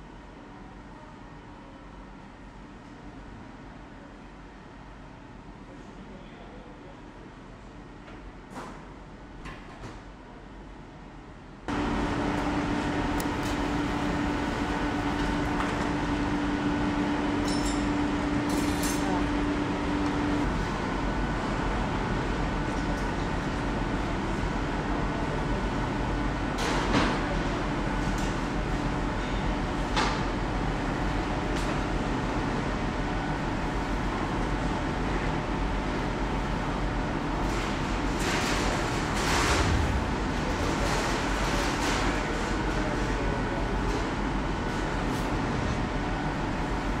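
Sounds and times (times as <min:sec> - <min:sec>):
bakery machinery hum: 0:00.0 - 0:47.0.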